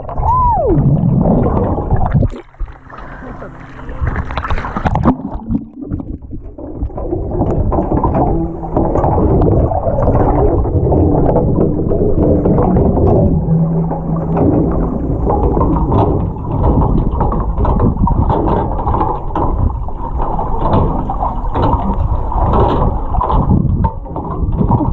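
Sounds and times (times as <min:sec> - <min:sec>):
churning water and bubbles: 0:00.0 - 0:24.9
low steady hum: 0:00.0 - 0:24.9.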